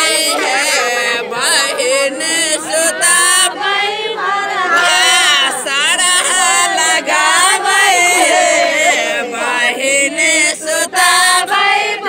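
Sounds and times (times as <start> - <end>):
group singing folk song: 0.0 - 12.0.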